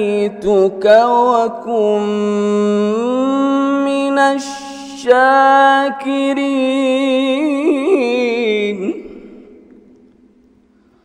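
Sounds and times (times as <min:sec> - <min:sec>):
man reciting melodically: 0:00.0 - 0:09.6.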